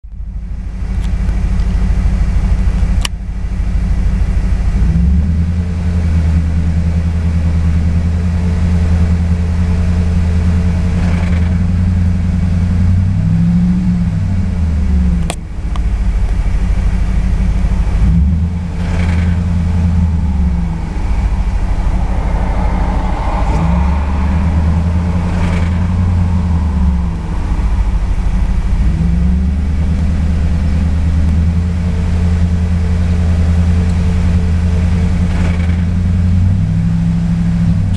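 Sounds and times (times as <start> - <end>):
engine clacking: 0.0 - 37.9
car engine revving gently: 4.8 - 37.9.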